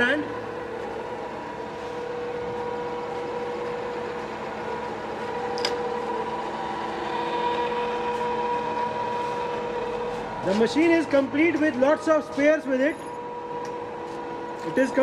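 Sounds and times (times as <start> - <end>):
grinding machine humming: 0.0 - 15.0.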